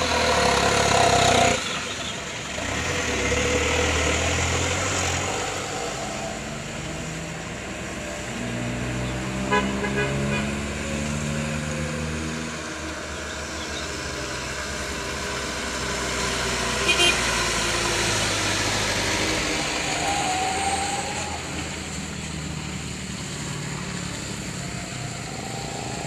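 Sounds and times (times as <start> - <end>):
dump truck diesel engines: 0.0 - 26.0.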